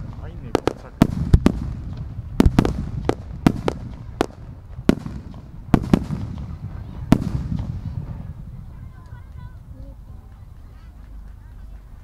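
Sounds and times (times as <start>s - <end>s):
firework shells bursting: 0.0s - 9.7s
low rumble of echoing reports: 0.0s - 12.0s.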